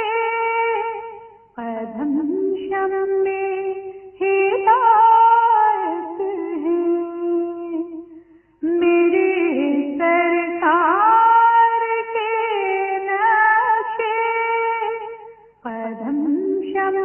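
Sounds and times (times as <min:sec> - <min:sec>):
woman singing devotional song: 0:00.0 - 0:17.0.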